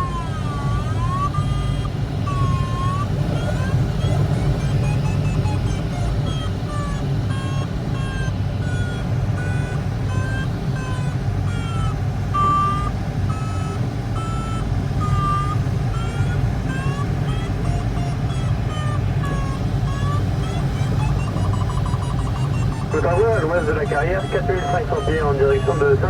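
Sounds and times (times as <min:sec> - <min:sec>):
low rush of cockpit noise: 0:00.0 - 0:26.0
variometer beeping: 0:00.0 - 0:26.0.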